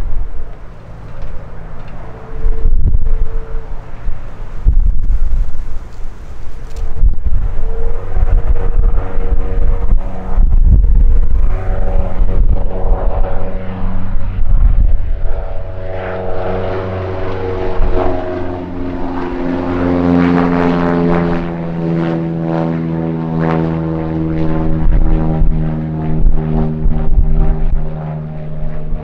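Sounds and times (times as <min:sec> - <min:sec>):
airplane engine and propeller droning: 0:00.0 - 0:29.0
wind buffeting microphone: 0:00.0 - 0:29.0.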